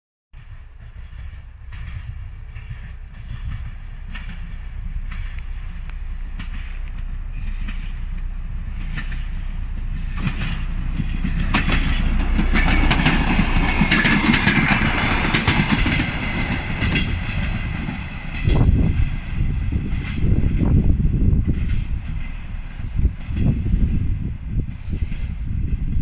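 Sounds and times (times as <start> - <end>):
train rumbling along track: 0.4 - 26.0
wheels clicking over rail joints: 0.4 - 26.0.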